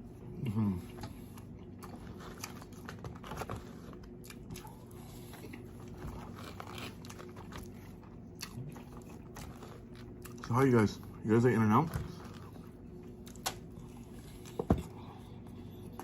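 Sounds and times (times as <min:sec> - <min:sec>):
person chewing food: 0:00.1 - 0:11.2, 0:12.0 - 0:16.0.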